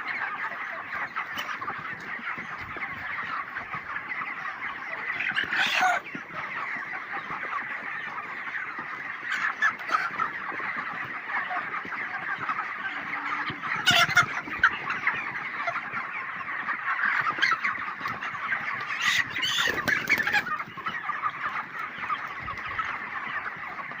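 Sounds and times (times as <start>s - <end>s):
flock of chickens clucking: 0.0s - 24.0s
louder chicken calls: 0.0s - 24.0s.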